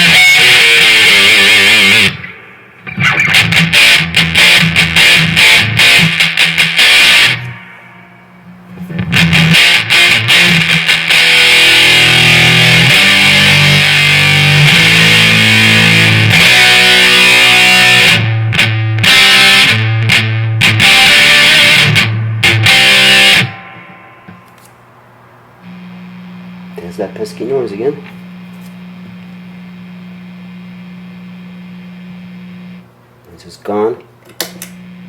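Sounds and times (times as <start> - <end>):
distorted electric guitar riff: 0.0 - 24.7, 25.6 - 32.9.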